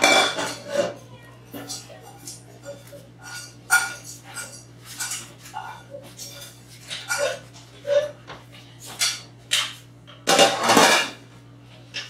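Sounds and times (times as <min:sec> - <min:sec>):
dishes and cutlery clinking: 0:00.0 - 0:11.2.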